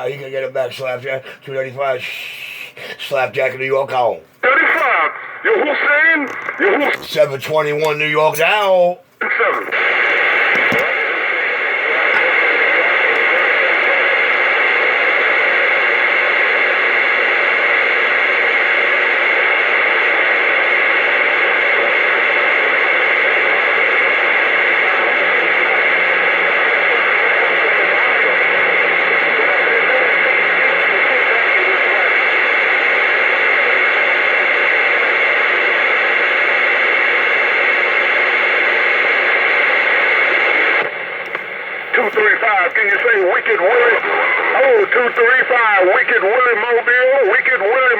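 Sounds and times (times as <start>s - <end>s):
radio static hiss: 0.0s - 47.9s.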